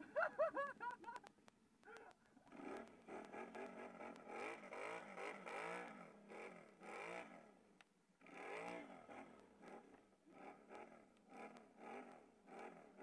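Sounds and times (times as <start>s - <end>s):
atv engine revving: 2.0s - 13.0s.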